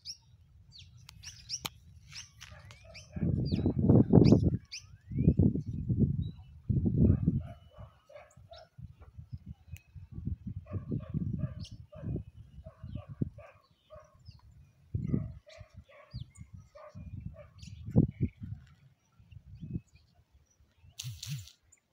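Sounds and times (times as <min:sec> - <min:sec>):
wind rumbling on microphone: 0:00.2 - 0:21.6.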